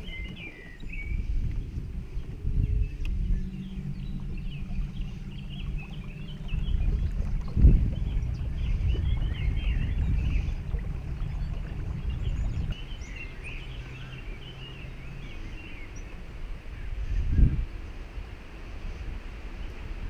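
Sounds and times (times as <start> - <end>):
electric boat motor humming: 0.0 - 17.2
birds chirping: 0.0 - 17.8.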